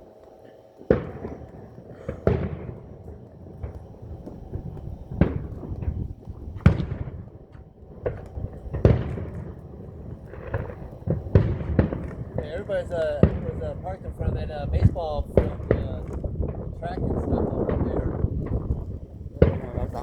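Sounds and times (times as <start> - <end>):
fireworks booming: 0.0 - 20.0
small fireworks pops: 0.0 - 20.0.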